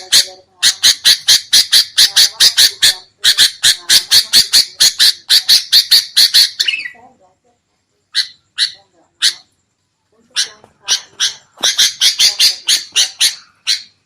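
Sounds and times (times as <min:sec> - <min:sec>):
bird scolding chatter: 0:00.0 - 0:07.1, 0:08.1 - 0:14.0.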